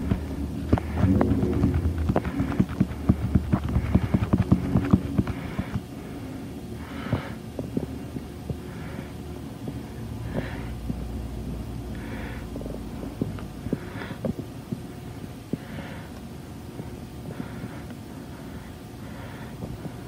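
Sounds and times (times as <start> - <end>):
television hum: 0.0 - 20.0.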